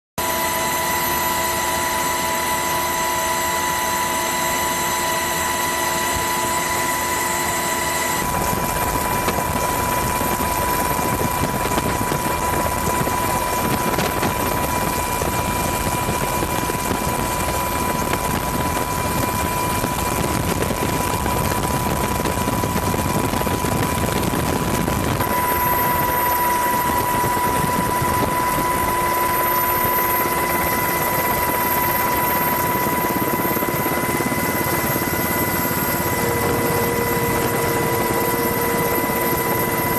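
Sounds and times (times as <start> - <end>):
helicopter engine and rotor drone: 0.2 - 39.9.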